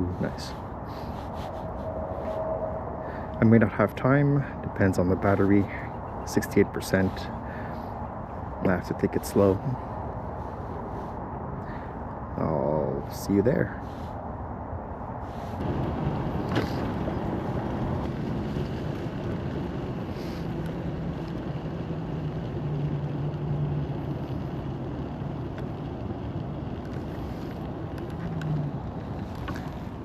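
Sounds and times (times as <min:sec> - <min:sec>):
road and tyre noise: 0:00.0 - 0:30.0
wind rushing over microphone: 0:00.0 - 0:30.0.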